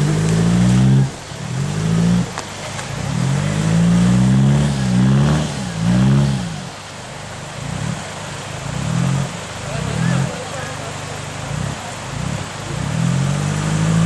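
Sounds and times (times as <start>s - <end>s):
pickup engine revving: 0.0s - 14.0s.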